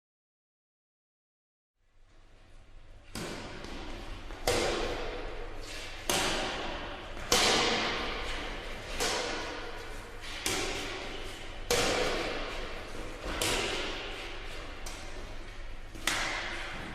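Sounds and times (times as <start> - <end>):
low hall rumble: 1.8 - 16.9
rackets hitting shuttlecock: 3.1 - 16.9.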